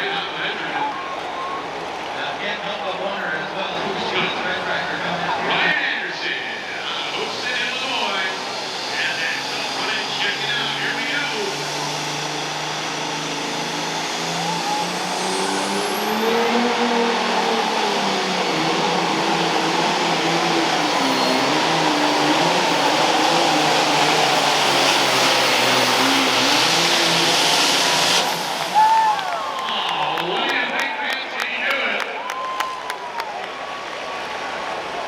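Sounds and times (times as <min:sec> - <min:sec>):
diesel tractor engine under load: 0:00.0 - 0:30.6.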